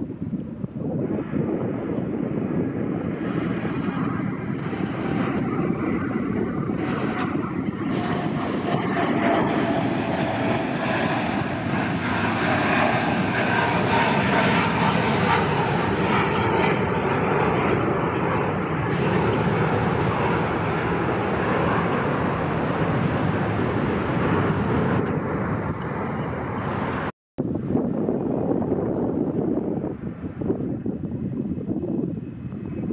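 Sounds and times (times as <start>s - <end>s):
jet engine roar: 0.0s - 32.9s.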